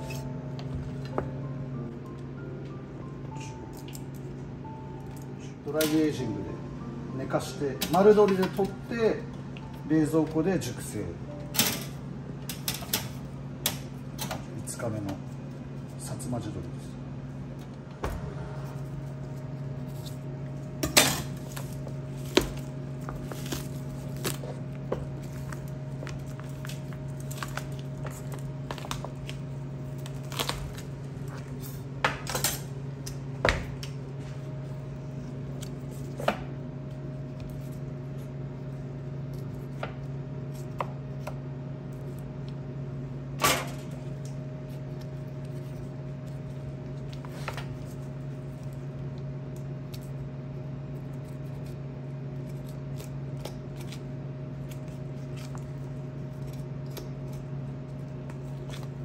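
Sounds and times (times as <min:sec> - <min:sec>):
low hum: 0:00.0 - 0:59.0.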